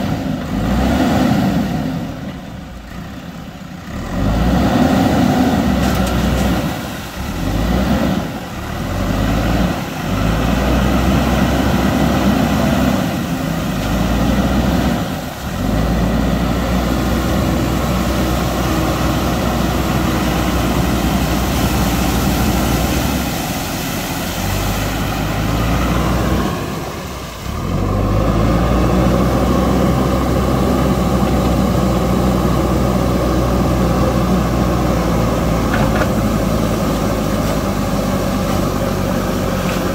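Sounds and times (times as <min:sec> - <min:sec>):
diesel engine revving: 0:00.0 - 0:39.9
water splashing: 0:00.2 - 0:39.9.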